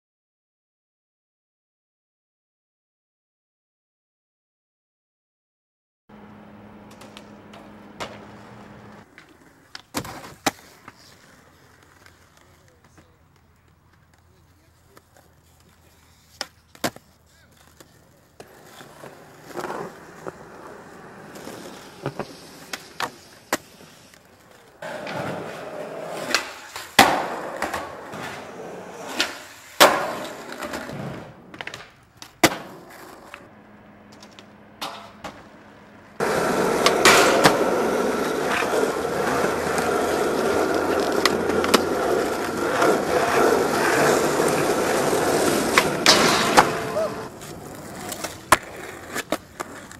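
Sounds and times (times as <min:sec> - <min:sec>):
skateboard wheels rolling on concrete: 0:06.1 - 0:49.9
skateboard clacking on ground: 0:06.8 - 0:33.5, 0:34.1 - 0:49.9.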